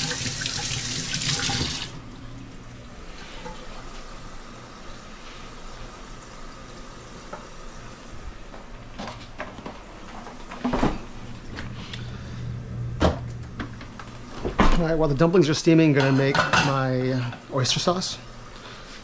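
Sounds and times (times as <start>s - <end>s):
refrigerator low hum: 0.0s - 19.0s.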